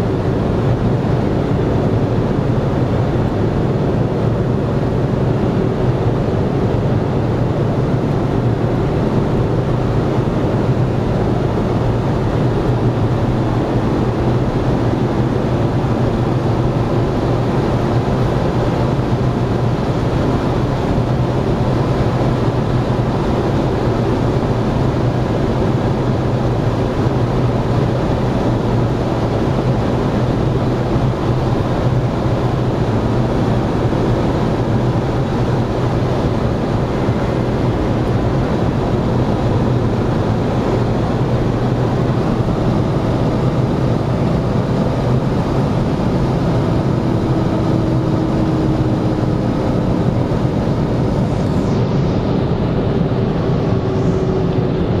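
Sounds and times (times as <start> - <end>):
car engine cruising drone: 0.0 - 55.0
wind noise: 0.0 - 55.0.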